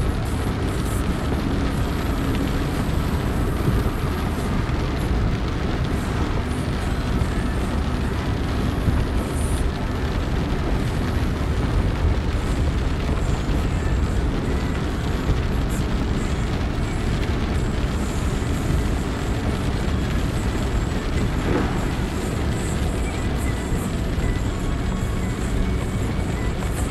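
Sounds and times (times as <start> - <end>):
car cabin rumble in heavy rain: 0.0 - 26.9.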